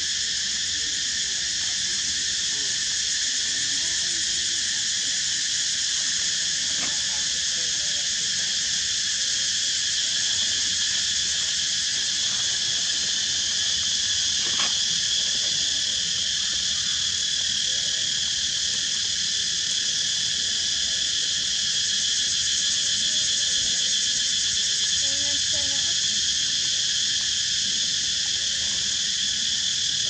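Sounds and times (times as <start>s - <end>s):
insect chorus chirring: 0.0s - 30.0s.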